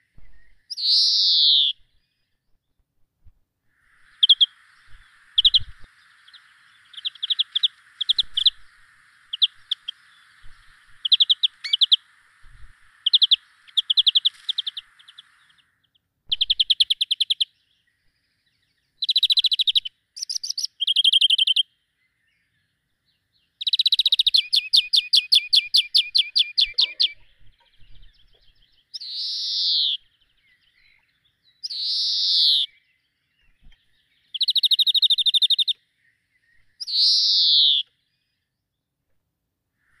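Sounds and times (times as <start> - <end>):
faint steady hiss: 0.0 - 40.0
songbirds chirping and trilling: 0.0 - 40.0.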